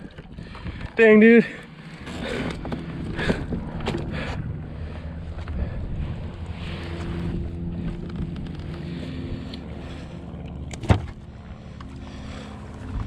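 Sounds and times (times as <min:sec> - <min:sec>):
electric trolling motor humming: 0:00.0 - 0:13.0.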